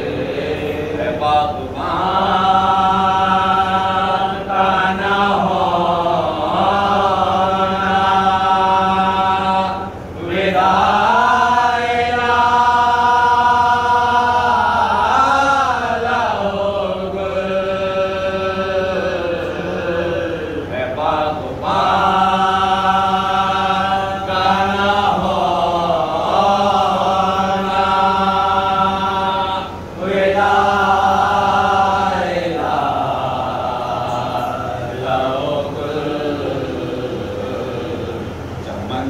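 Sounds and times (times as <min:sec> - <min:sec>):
lead reciter chanting: 0:00.0 - 0:39.0
men chanting: 0:00.0 - 0:39.0.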